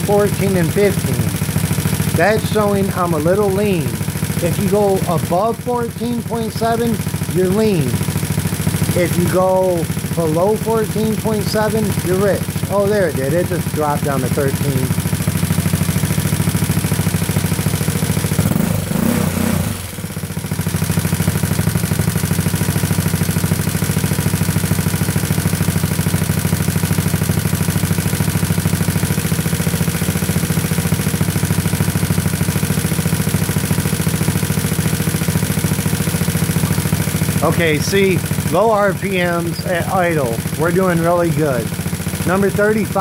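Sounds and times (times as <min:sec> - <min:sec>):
scooter engine idling: 0:00.0 - 0:43.0.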